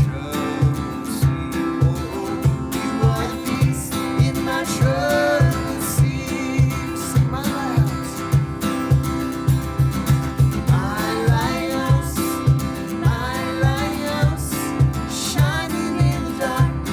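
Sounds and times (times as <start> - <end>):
steady beat: 0.0 - 16.9
strummed acoustic guitar: 0.0 - 16.9.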